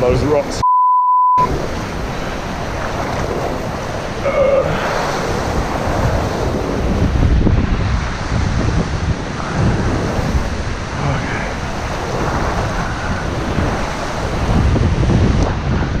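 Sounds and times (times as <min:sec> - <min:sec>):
surf on rocky shore: 0:00.0 - 0:00.6, 0:01.4 - 0:16.0
wind buffeting microphone: 0:01.4 - 0:16.0.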